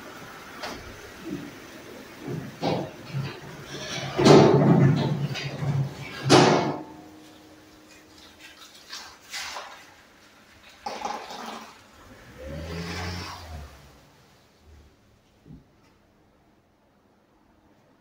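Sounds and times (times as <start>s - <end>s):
car engine and tyre noise: 0.0s - 8.5s, 9.2s - 18.0s.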